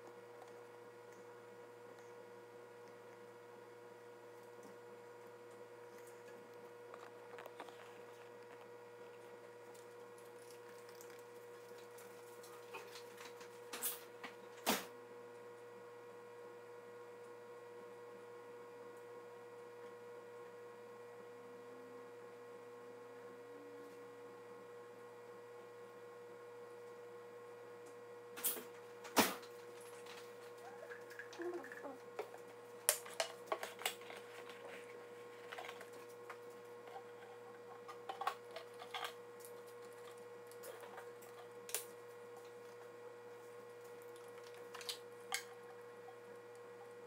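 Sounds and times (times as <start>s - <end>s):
steady electrical hum: 0.0s - 47.0s.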